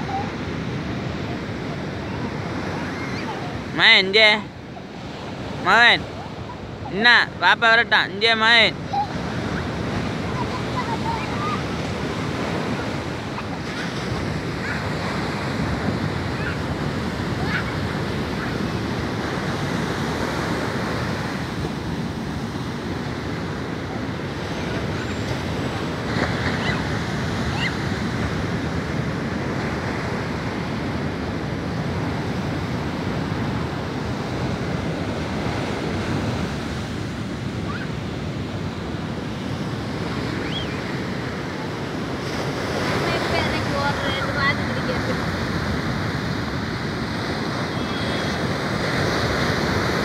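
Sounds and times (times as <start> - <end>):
surf breaking on beach: 0.0 - 50.0.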